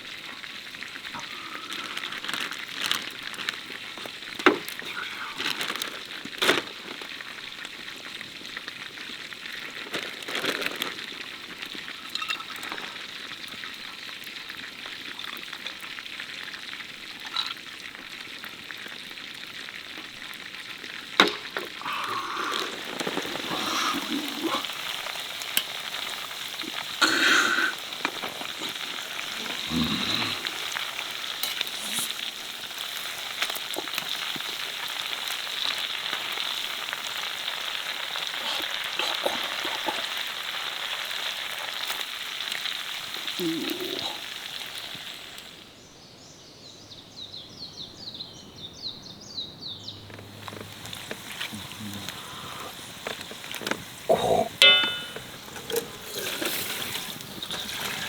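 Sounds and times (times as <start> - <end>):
rice sizzling in a pan: 0.0 - 45.9, 50.0 - 58.0.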